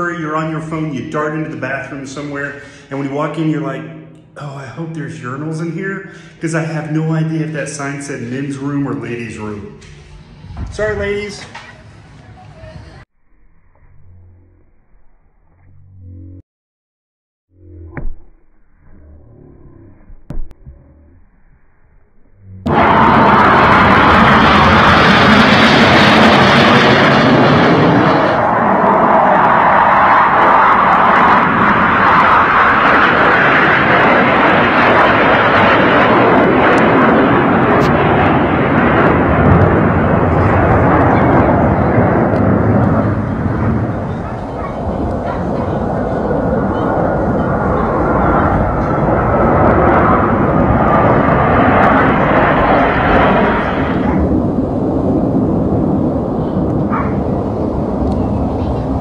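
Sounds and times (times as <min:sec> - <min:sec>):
jet engines roaring overhead: 0:00.0 - 0:13.1, 0:22.6 - 0:59.0.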